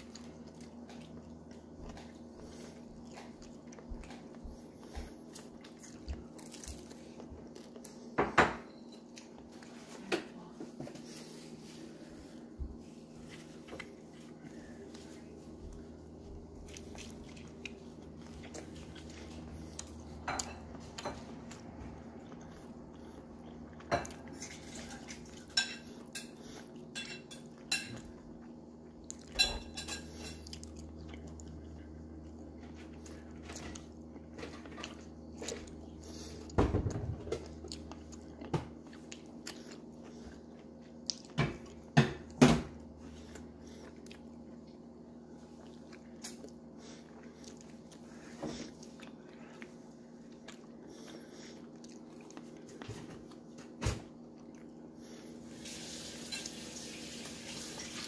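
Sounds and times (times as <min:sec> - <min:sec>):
person chewing food: 0:00.0 - 0:09.9, 0:11.0 - 0:55.6
steady low hum: 0:00.0 - 0:56.4.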